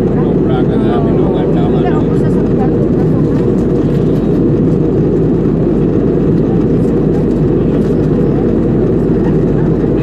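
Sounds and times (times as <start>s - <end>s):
jet engine and airflow drone: 0.0s - 10.0s.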